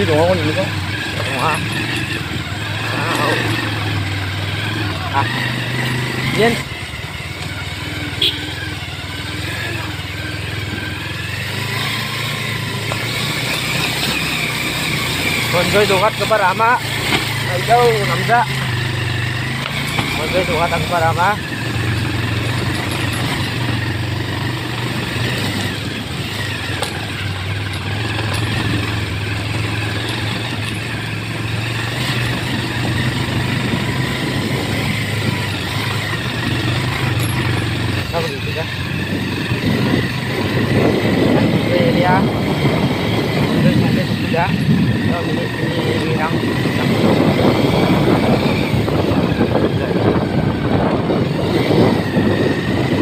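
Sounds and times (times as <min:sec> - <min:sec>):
motorcycle engine running: 0:00.0 - 0:53.0
road noise on rocky dirt road: 0:00.0 - 0:53.0.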